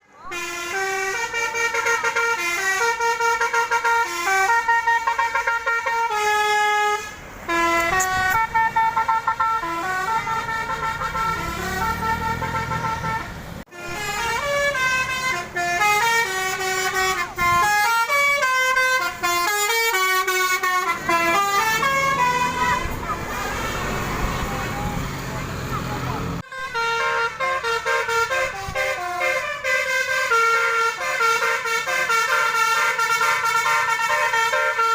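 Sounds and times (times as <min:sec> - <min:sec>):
musical bus horn tune: 0:00.2 - 0:24.8, 0:26.2 - 0:34.9.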